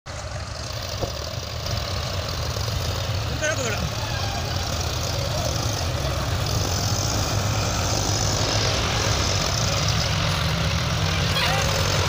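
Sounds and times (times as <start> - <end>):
tractor diesel engines droning: 0.1 - 12.0.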